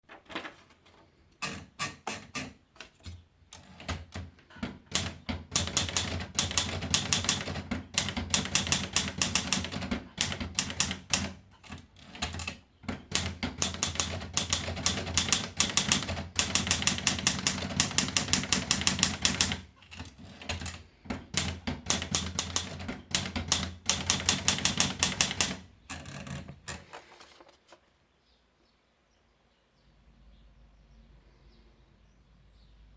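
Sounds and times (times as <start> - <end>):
manual typewriter typing: 0.1 - 27.8.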